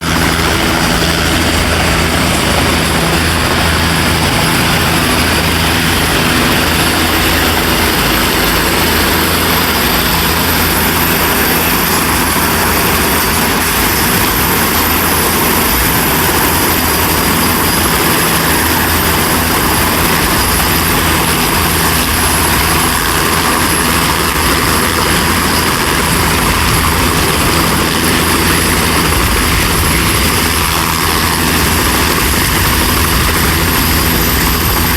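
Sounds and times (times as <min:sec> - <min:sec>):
helicopter rotor and engine: 0:00.0 - 0:34.9
high turbine whine: 0:00.0 - 0:34.9.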